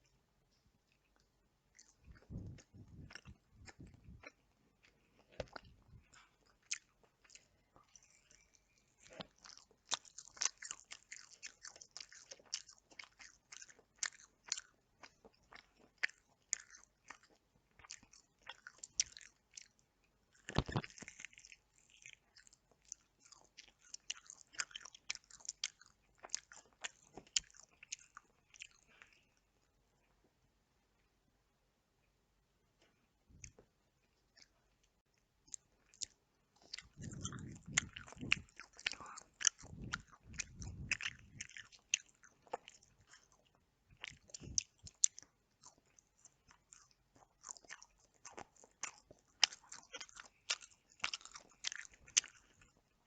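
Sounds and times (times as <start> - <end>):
person chewing chicken: 0.0 - 30.3, 32.8 - 53.0.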